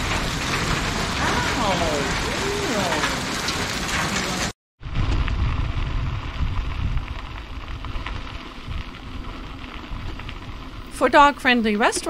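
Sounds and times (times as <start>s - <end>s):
bike tyres on gravel: 0.0s - 12.0s
heavy rain and hail: 0.0s - 12.0s
wind rumbling over microphone: 0.0s - 12.0s.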